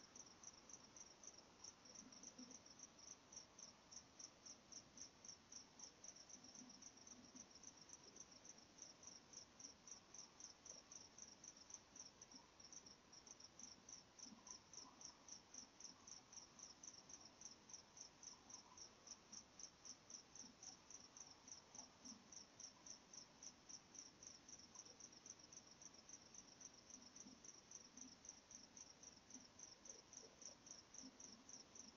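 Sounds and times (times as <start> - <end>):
cricket chirping: 0.0 - 31.9.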